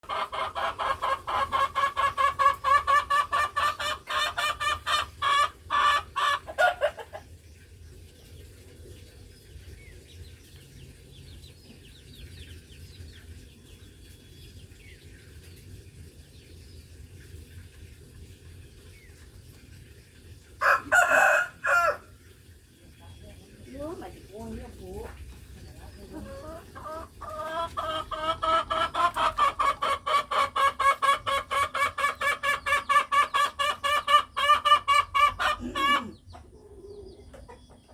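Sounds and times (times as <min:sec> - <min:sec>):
chicken clucking: 0:00.0 - 0:18.2, 0:20.4 - 0:22.0, 0:22.8 - 0:37.9.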